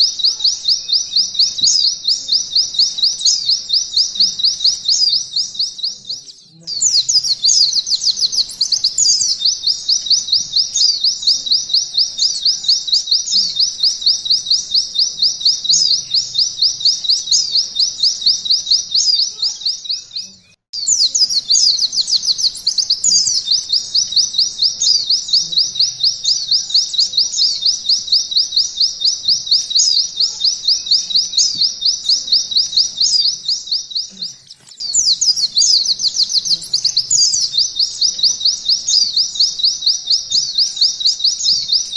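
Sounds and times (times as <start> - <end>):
bird singing fast trill: 0.0 - 41.9.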